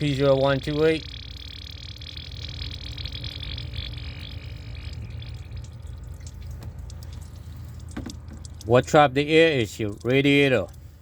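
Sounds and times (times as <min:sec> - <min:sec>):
coolant gurgling: 0:00.0 - 0:11.0.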